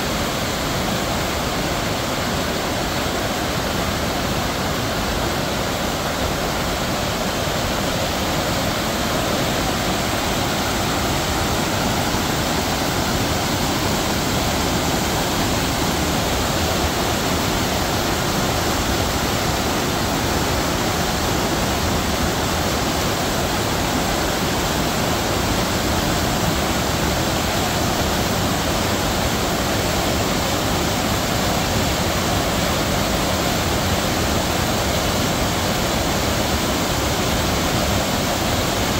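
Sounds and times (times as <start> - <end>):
rushing mountain water: 0.0 - 38.9.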